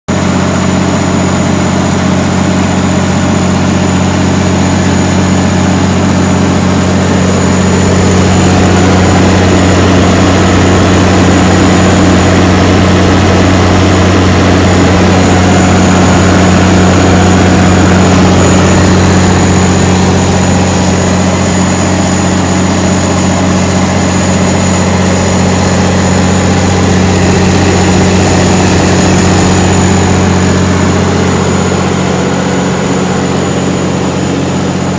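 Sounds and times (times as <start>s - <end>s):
generator engine running: 0.1s - 34.9s.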